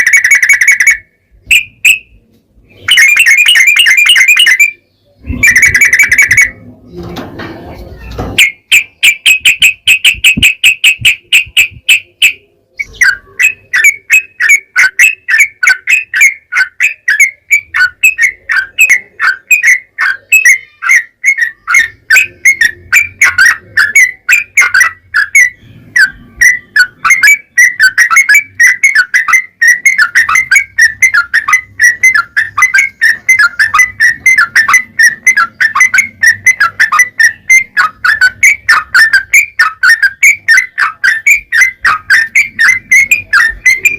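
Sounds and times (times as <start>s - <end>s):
bird singing whistled notes: 0.0s - 6.6s, 8.0s - 43.9s.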